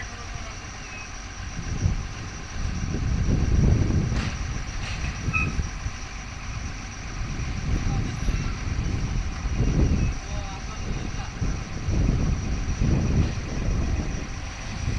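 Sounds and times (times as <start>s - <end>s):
heavy diesel machinery rumbling: 0.0s - 14.9s.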